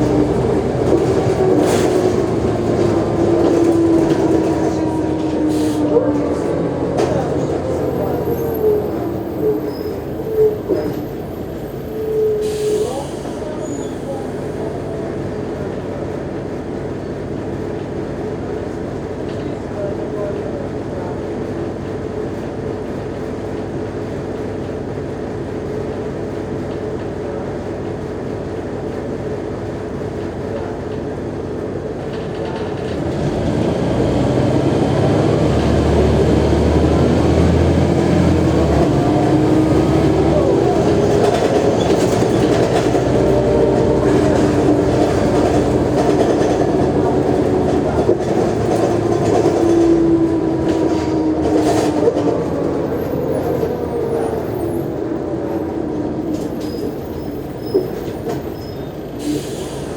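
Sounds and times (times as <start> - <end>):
bus diesel engine pulling hard: 0.0 - 20.9, 23.7 - 59.9.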